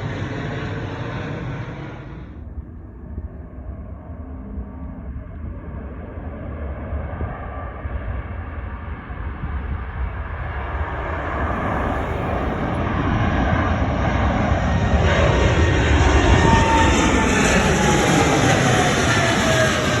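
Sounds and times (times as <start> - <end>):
falling jet engine whine: 0.0 - 20.0
jet airliner taking off: 0.0 - 20.0.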